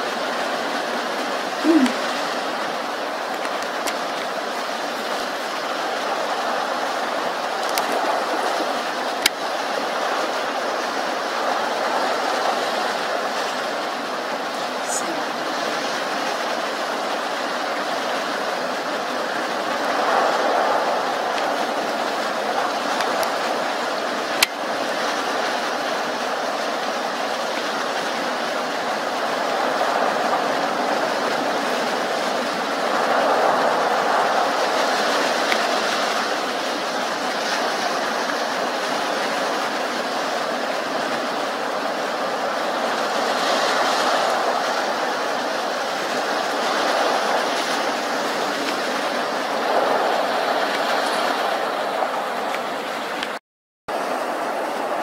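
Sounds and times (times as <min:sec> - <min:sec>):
surf washing on a beach: 0:00.0 - 0:55.0.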